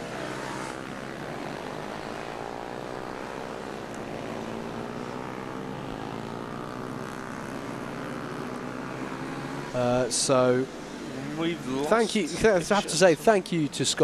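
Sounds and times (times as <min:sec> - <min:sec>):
pit bike engines racing: 0:00.0 - 0:14.0.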